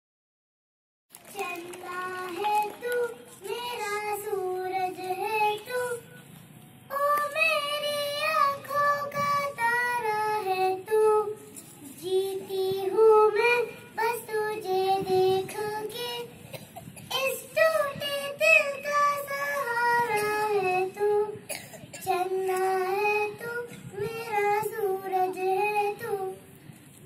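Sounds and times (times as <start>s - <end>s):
girl singing into microphone: 1.3s - 6.2s, 6.9s - 26.6s.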